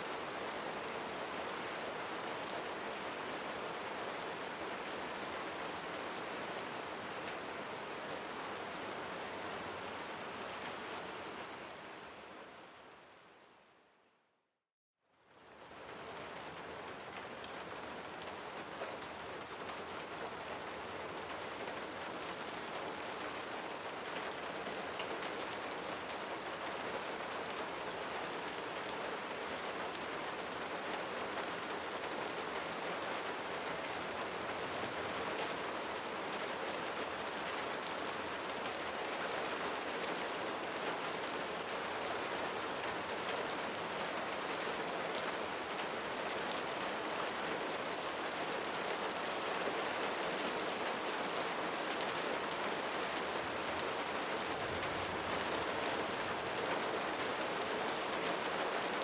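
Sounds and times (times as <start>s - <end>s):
rain falling: 0.0s - 13.6s, 15.3s - 59.0s.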